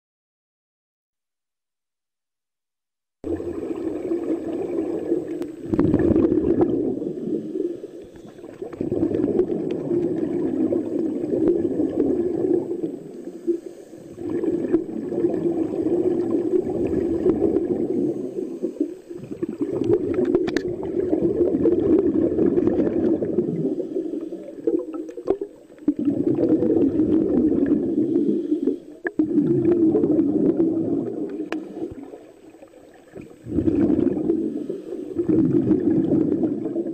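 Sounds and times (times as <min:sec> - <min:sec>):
underwater exhaust bubbles: 0:03.2 - 0:36.9.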